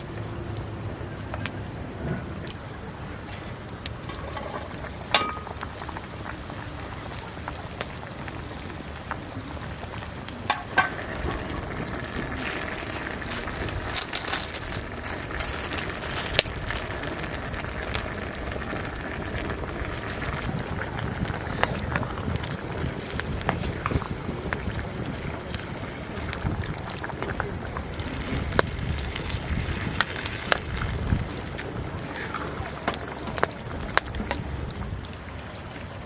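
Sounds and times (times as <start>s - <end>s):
campfire crackling: 0.0s - 36.0s
sharp pops of fire: 2.3s - 35.3s.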